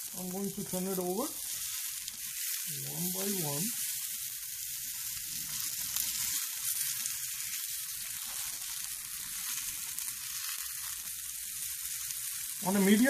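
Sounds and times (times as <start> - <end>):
faint crackles: 0.0 - 13.0
fish sizzling in a frying pan: 0.0 - 13.0.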